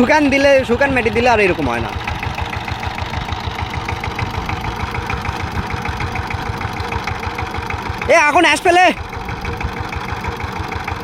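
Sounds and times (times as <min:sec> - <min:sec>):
diesel engine thudding: 0:00.0 - 0:11.0.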